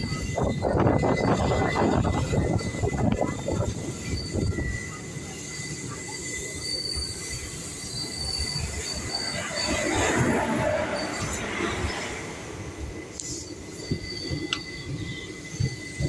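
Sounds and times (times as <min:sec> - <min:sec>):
train rumbling: 0:00.0 - 0:16.0
train wheels squealing: 0:00.0 - 0:16.0.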